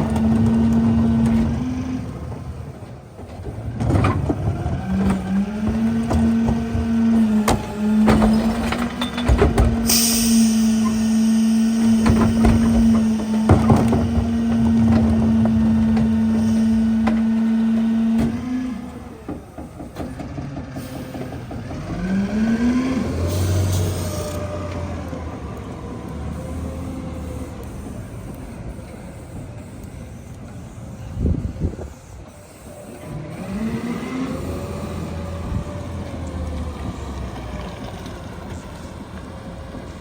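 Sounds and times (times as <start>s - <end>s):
hydraulics whining: 0.0s - 40.0s
truck engine droning: 0.0s - 40.0s.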